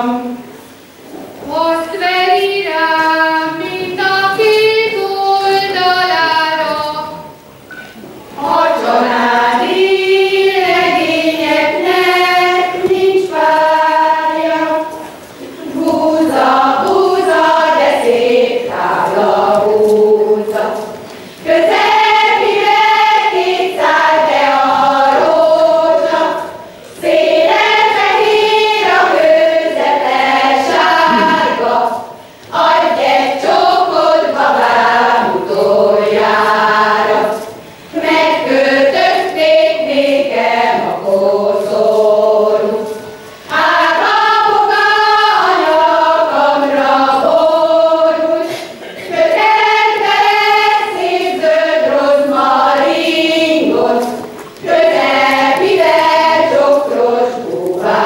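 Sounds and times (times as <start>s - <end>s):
women's folk choir singing: 0.0s - 7.5s, 8.1s - 58.0s.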